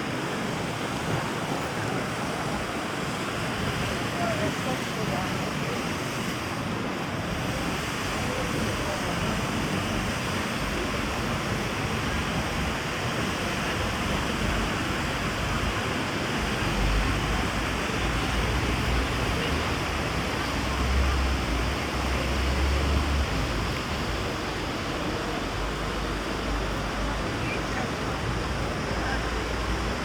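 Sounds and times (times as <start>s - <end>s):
sea surf rushing: 0.0s - 30.0s.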